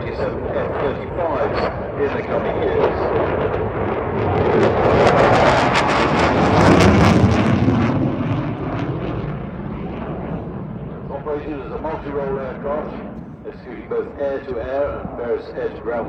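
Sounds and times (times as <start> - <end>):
fighter jet passing: 0.0 - 16.0.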